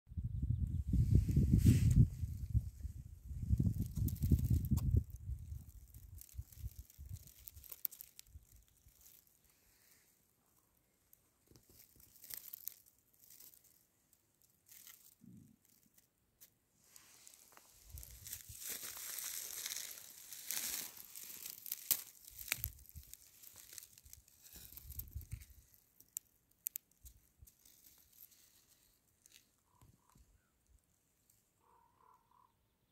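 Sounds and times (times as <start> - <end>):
dry grass rustling and crackling: 0.9 - 30.8.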